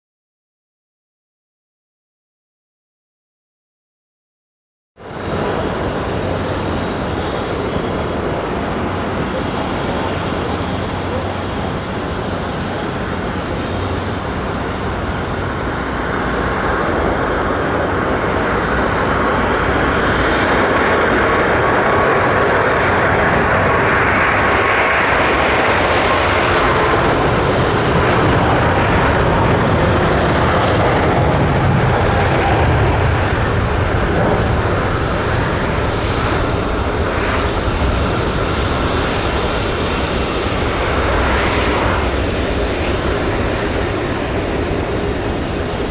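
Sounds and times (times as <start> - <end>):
faint jet engine whine: 5.0 - 45.9
jet airliner engines roaring: 5.0 - 45.9.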